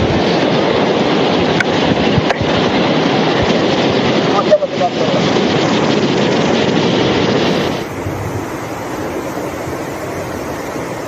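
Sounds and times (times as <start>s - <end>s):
rushing floodwater roar: 0.0s - 11.0s
wind noise on microphone: 0.0s - 11.0s.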